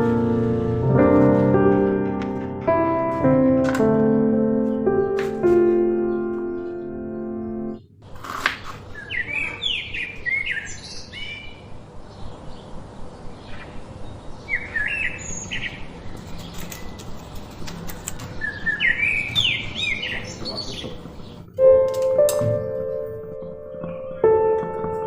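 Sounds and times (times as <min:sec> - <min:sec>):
outdoor background hiss: 0:00.0 - 0:25.0
songbird chirping: 0:03.4 - 0:08.0, 0:08.8 - 0:25.0.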